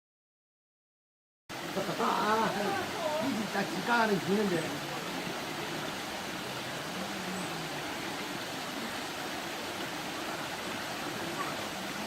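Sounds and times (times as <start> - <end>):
mountain stream rushing: 1.5 - 12.0.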